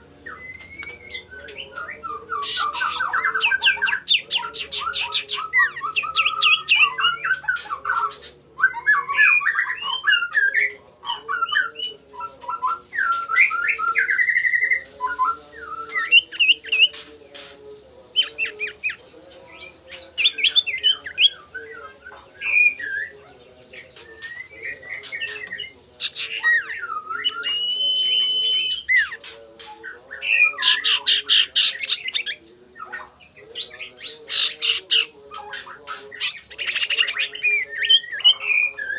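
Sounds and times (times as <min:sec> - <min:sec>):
bird chattering and whistling: 0:00.0 - 0:17.5, 0:18.1 - 0:38.9.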